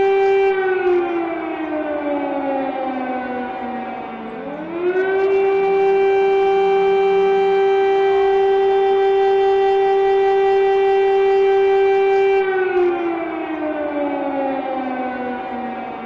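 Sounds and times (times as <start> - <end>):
siren winding down: 0.0 - 16.0.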